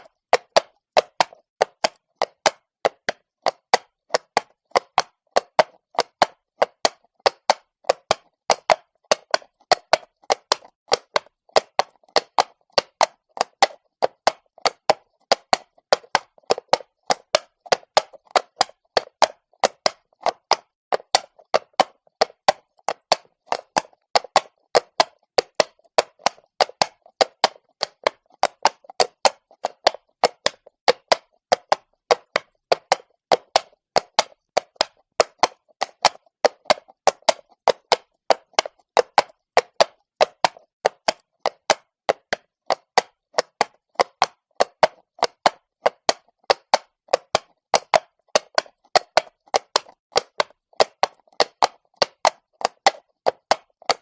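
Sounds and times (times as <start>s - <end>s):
horse hooves clopping on stone: 0.0s - 54.0s.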